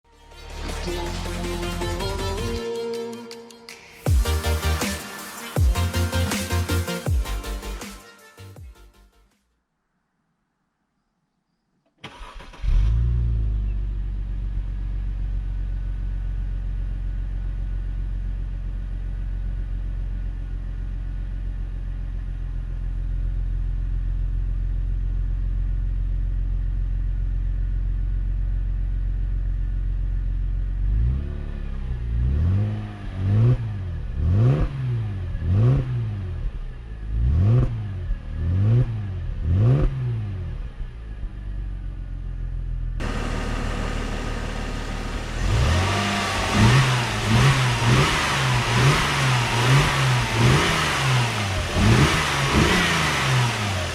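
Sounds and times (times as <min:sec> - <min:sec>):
car engine idling and revving: 0:04.1 - 0:08.0, 0:12.1 - 0:53.9.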